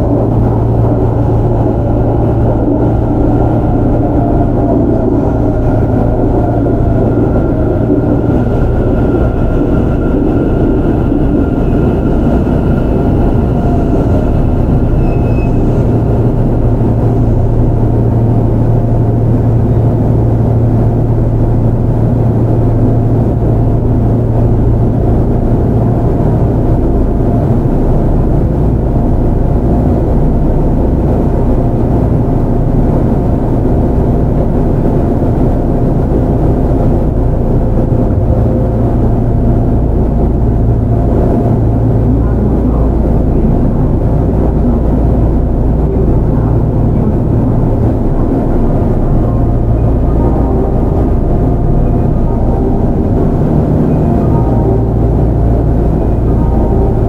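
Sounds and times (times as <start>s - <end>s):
strong low hum: 0.0s - 57.0s
train wheels rumbling on rail: 0.0s - 57.0s.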